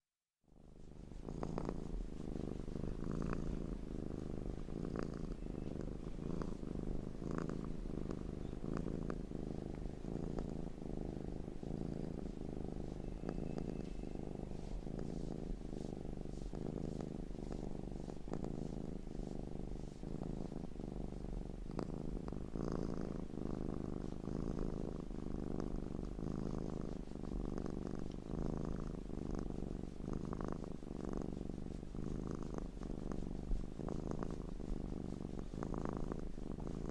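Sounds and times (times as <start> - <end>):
cat purring: 0.5 - 36.9.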